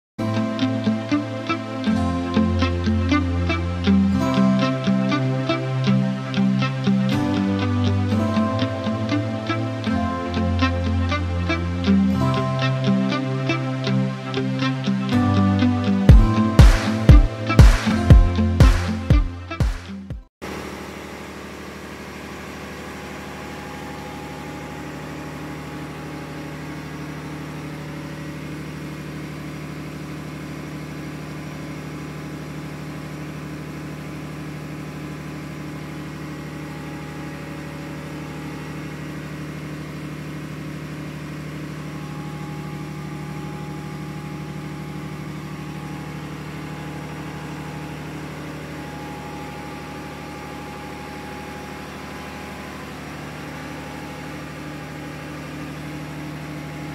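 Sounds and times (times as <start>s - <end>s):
engine-room machinery drone: 0.2s - 56.9s.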